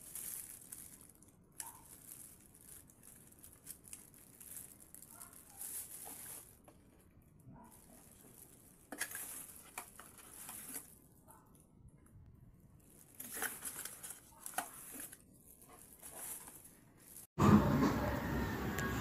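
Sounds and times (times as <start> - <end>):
cardboard and plastic rustling: 0.0 - 11.6, 12.8 - 17.4.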